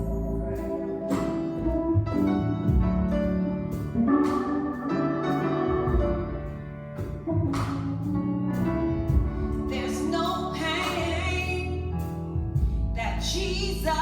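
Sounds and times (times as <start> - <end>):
gospel keyboard music: 0.0 - 14.0.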